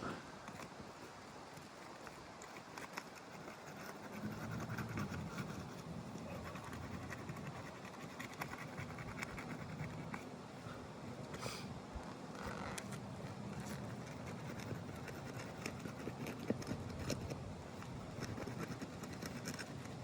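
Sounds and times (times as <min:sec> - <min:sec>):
clicks and scratching on shingle roof: 0:00.4 - 0:10.3, 0:12.2 - 0:20.0.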